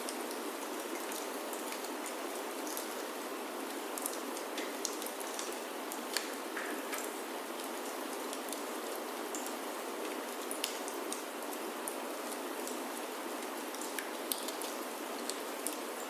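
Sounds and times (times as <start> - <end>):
rain falling on a roof: 0.0 - 16.0.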